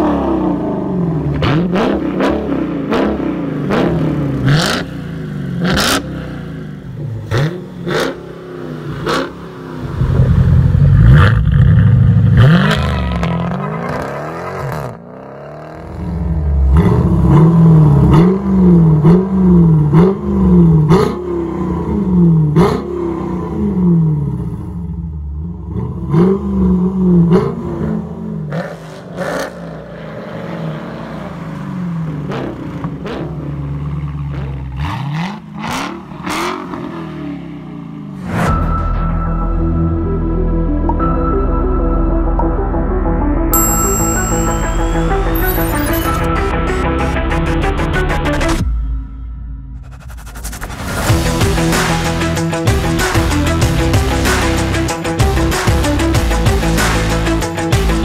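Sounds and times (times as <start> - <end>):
car engine revving and idling: 0.0 - 38.6, 45.4 - 58.0.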